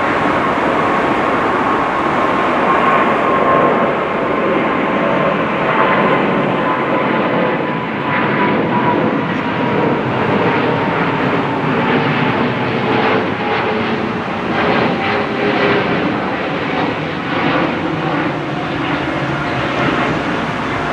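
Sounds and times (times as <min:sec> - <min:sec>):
jet engines roaring on landing: 0:00.0 - 0:20.9.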